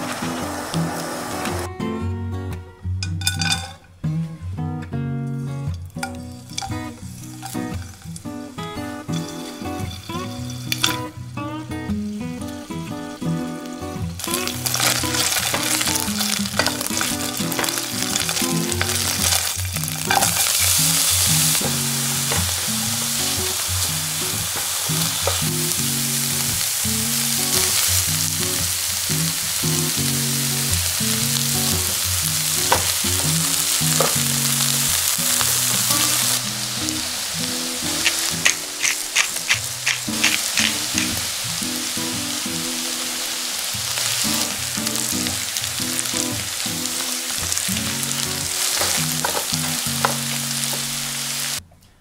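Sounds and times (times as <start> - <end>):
butter and onion sizzling in a pan: 0.0 - 1.7, 5.9 - 51.6
background music: 0.0 - 51.6.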